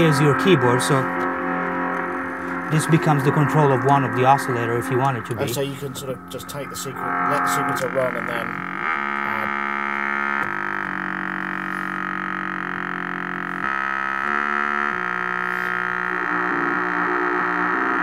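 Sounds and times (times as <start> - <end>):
synthesizer sequencer note pattern: 0.0 - 18.0
synthesizer sustained tones: 0.0 - 18.0.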